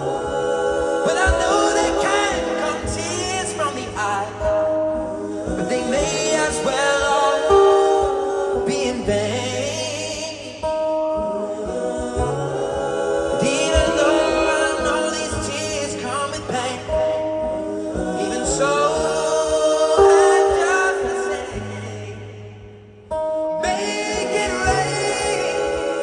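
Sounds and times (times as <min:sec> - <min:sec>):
wordless choir-like vocal harmonies: 0:00.0 - 0:26.0.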